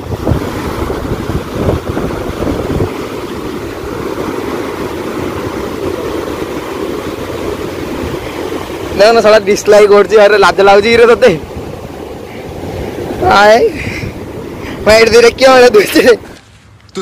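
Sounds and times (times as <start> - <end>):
wind rumbling on microphone: 0.0 - 16.8
sea surf: 0.0 - 17.0.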